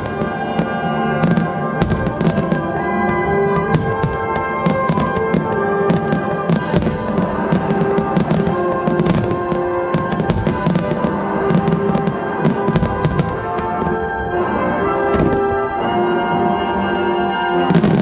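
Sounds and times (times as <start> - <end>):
fireworks bursting and crackling: 0.0 - 18.0
loud music with sustained notes: 0.0 - 18.0.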